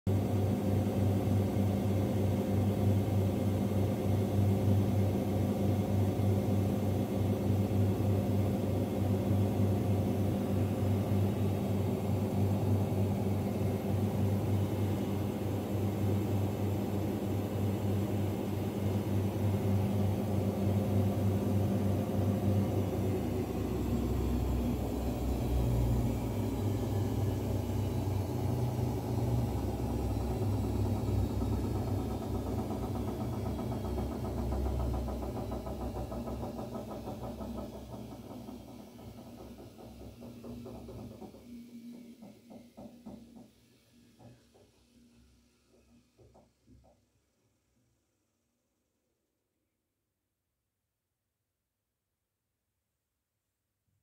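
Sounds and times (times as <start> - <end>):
washing machine spinning hum: 0.1 - 47.0.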